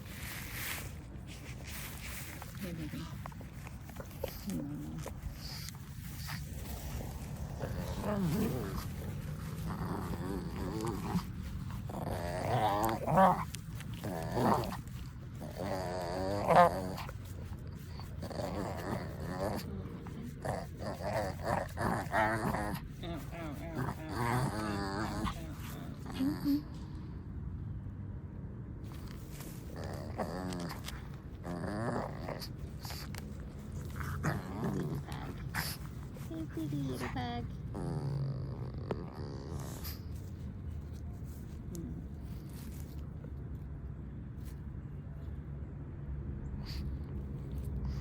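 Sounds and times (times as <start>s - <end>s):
puppy growling in play: 0.0s - 27.3s, 28.8s - 43.7s, 46.6s - 48.0s.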